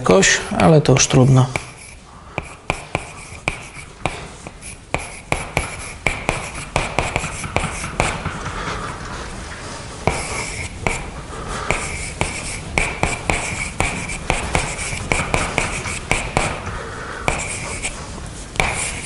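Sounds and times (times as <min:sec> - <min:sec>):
chalk scratching on blackboard: 0:00.3 - 0:08.3, 0:10.0 - 0:16.6, 0:17.3 - 0:18.0, 0:18.6 - 0:19.0
chalk tapping on blackboard: 0:00.9 - 0:08.7, 0:10.0 - 0:11.1, 0:11.7 - 0:19.0.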